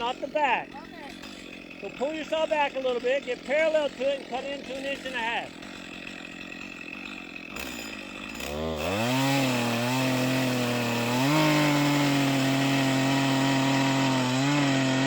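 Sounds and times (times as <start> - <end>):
chainsaw cutting tree: 0.0 - 15.0.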